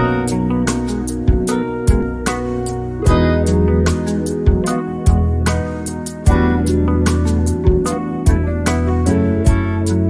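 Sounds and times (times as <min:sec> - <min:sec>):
plucked guitar music over a beat: 0:00.0 - 0:10.0.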